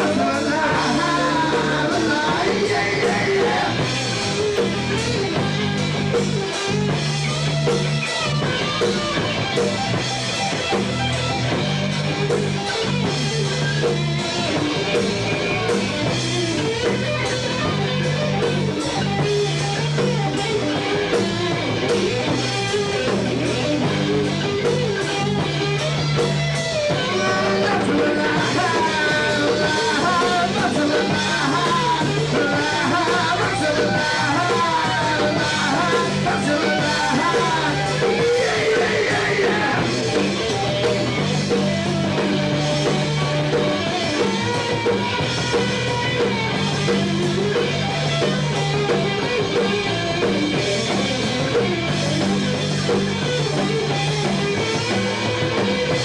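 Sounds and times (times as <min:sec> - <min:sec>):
bass guitar: 0:00.0 - 0:56.0
drum kit: 0:00.0 - 0:56.0
electric guitar lead: 0:00.0 - 0:56.0.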